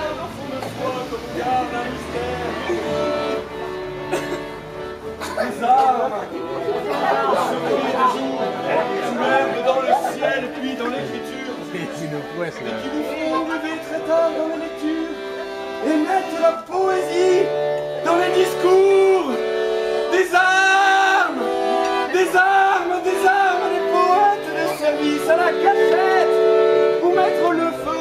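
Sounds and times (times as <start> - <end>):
man singing: 0.0 - 3.3, 7.3 - 19.4, 20.0 - 26.4, 27.0 - 28.0
piano accordion playing: 0.0 - 28.0.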